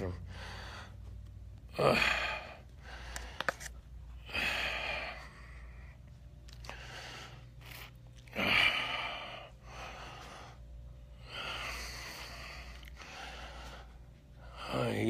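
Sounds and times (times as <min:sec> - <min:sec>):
faint steady hum: 0:00.0 - 0:15.0
man breathing heavily: 0:00.0 - 0:15.0.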